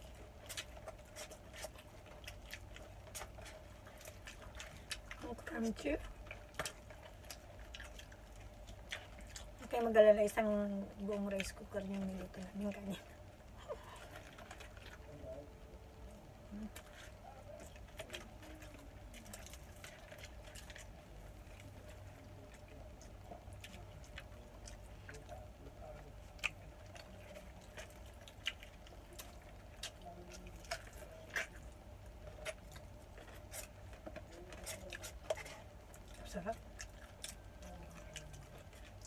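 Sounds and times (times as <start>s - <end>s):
low steady hum: 0.0s - 39.0s
soft wet chewing: 0.0s - 39.0s.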